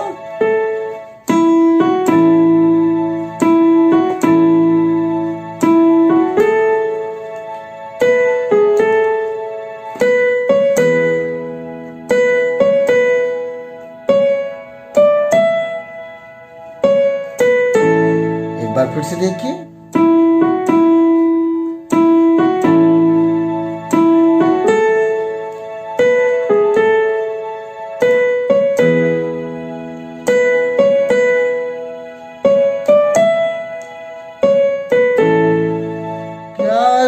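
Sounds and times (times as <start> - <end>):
slow keyboard piano notes: 0.0 - 37.0.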